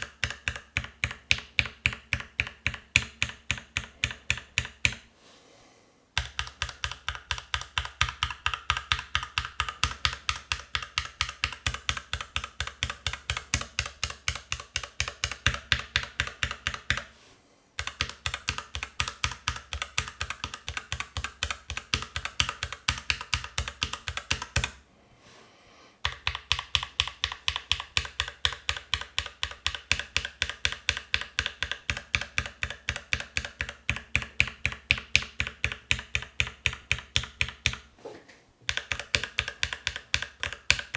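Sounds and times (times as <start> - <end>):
fast typing on mechanical keyboard: 0.0 - 5.0, 6.2 - 17.1, 17.8 - 24.8, 26.0 - 37.9, 38.7 - 40.9.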